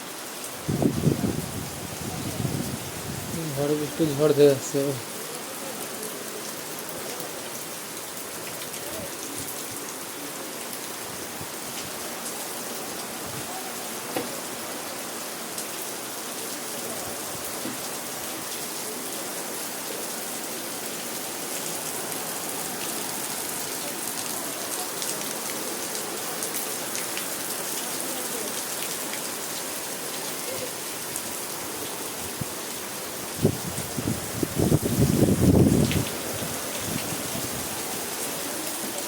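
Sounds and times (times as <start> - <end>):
steady rain hiss: 0.0 - 39.0.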